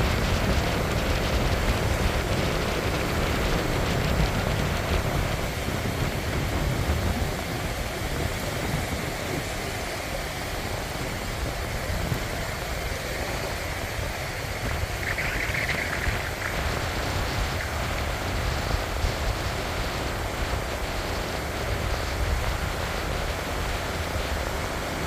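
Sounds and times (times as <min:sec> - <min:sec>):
waves washing up a beach: 0:00.0 - 0:25.0.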